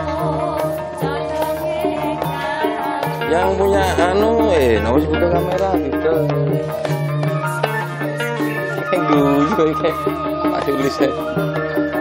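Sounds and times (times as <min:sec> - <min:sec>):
drum beat: 0:00.0 - 0:12.0
held instrumental notes: 0:00.0 - 0:12.0.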